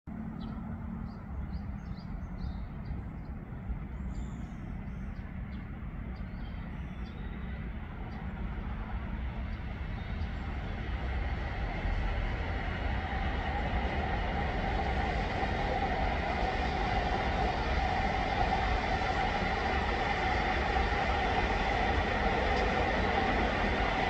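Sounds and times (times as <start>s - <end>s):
distant electric trains rumbling: 0.1s - 24.0s.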